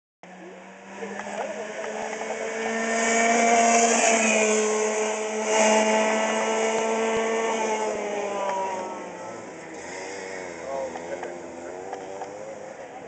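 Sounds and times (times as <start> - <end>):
kart engine buzzing whine: 0.2 - 13.0.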